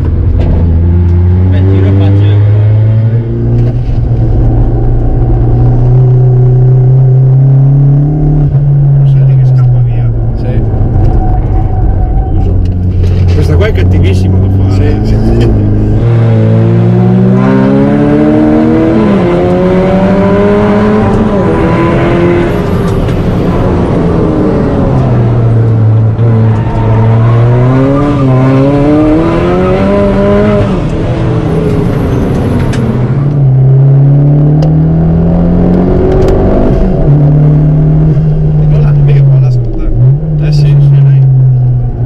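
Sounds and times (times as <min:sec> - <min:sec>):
car engine revving: 0:00.0 - 0:42.0
road and tyre noise: 0:00.0 - 0:42.0.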